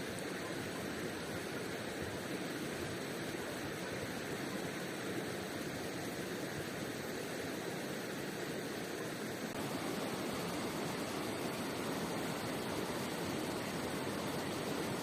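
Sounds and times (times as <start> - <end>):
river rushing: 0.1 - 15.0.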